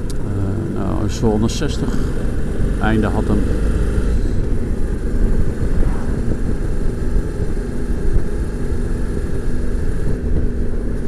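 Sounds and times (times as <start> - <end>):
motorcycle engine hum: 0.0 - 11.0
wind and road rumble: 0.0 - 11.0.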